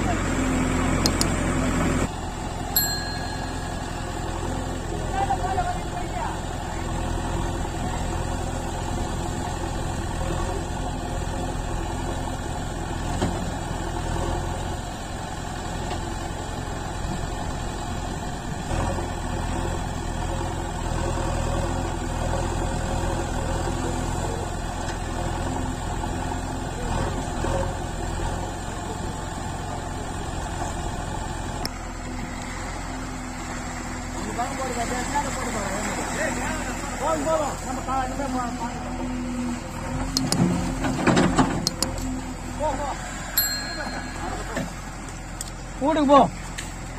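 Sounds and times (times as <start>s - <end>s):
backhoe diesel engine running: 0.0s - 46.9s.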